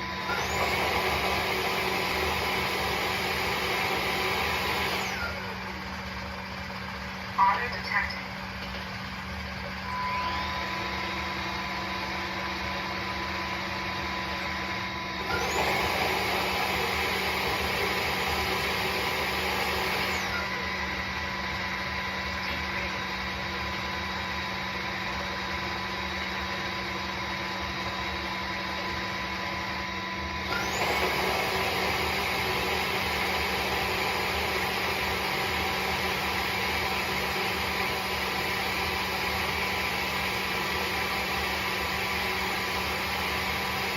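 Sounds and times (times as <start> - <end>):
vacuum mop motor whining: 0.0 - 5.9, 9.6 - 43.9.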